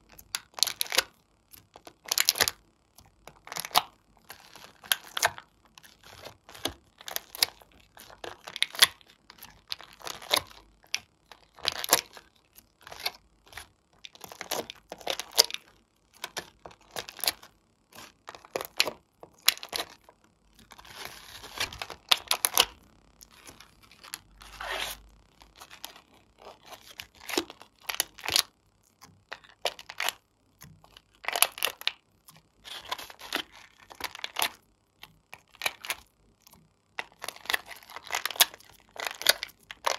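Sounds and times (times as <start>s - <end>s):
plastic tray crinkling: 3.3s - 28.5s, 29.2s - 32.0s, 32.6s - 34.6s, 35.3s - 36.1s, 37.0s - 39.9s.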